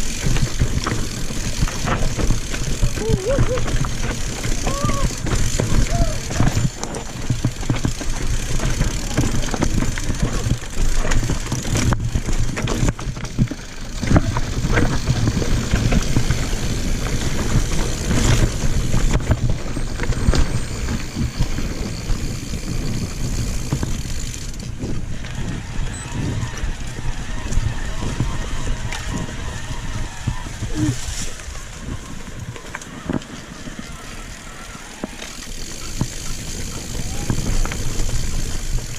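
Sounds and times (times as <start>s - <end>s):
bike clattering over bumps: 0.0s - 38.9s
bike tyres rolling over rough ground: 0.0s - 38.9s.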